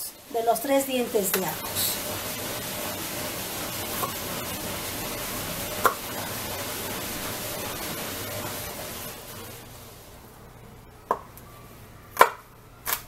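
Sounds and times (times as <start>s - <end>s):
steady background hiss: 0.0s - 12.9s.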